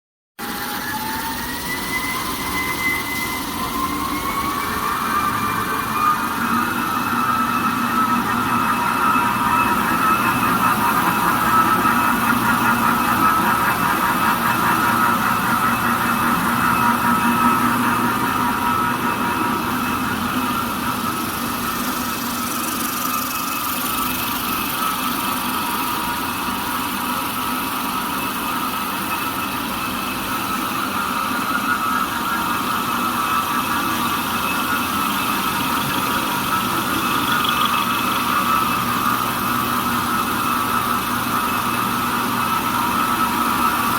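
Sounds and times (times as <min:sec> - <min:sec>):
machine droning: 0:00.4 - 0:43.9.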